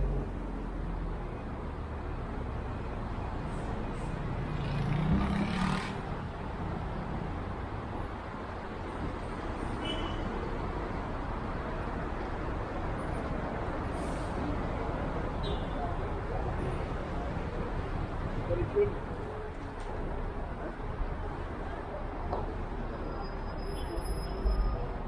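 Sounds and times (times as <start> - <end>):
road vehicles passing: 0.0 - 25.0.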